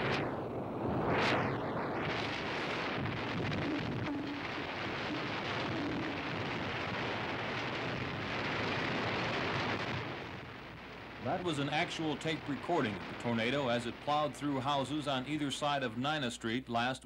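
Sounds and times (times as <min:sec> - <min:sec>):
tornado wind rushing: 0:00.0 - 0:16.0.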